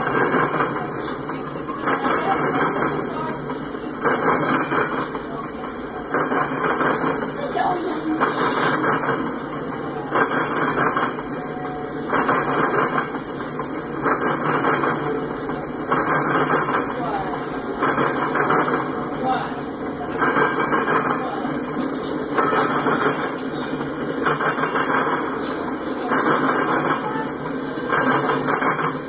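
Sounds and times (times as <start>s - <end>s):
train rumble: 0.0s - 29.0s
wheels clattering over track joints: 0.0s - 29.0s.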